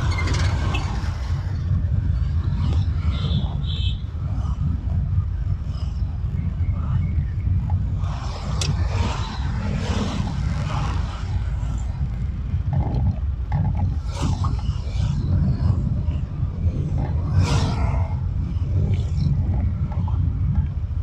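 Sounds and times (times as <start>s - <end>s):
car engine and tyres rumbling: 0.0s - 21.0s
traffic noise: 0.0s - 21.0s.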